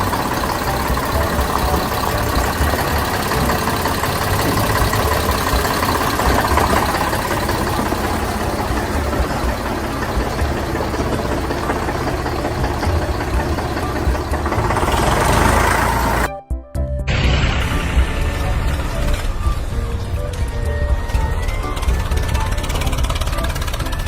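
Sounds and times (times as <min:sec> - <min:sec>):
engine idling with rough knocking: 0:00.0 - 0:16.3, 0:17.1 - 0:24.0.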